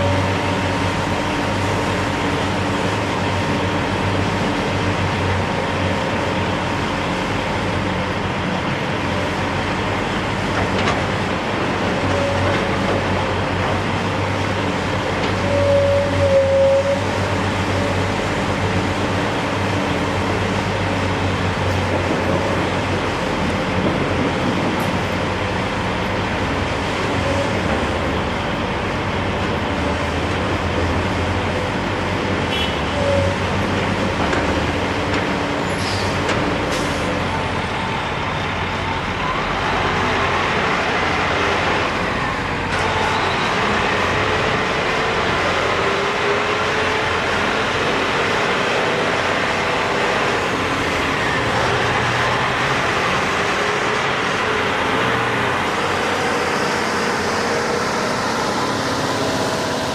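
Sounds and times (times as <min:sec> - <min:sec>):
road traffic: 0:00.0 - 0:59.9
trucks passing: 0:00.0 - 0:59.9.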